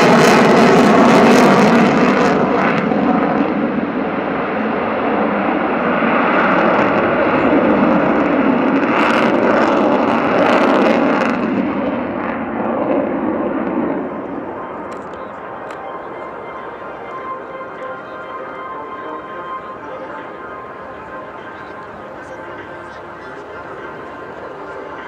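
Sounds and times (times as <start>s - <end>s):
jet fighter passing: 0.0s - 25.0s.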